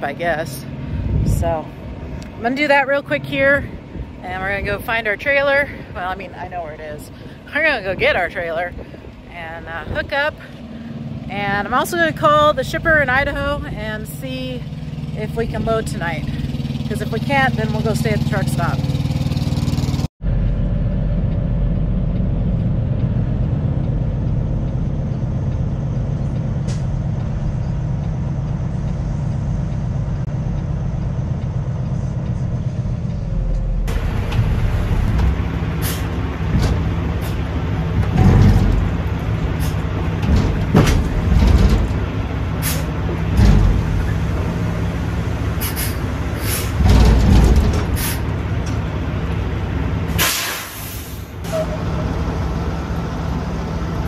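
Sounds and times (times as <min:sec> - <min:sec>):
diesel truck engine humming: 0:00.0 - 0:54.0.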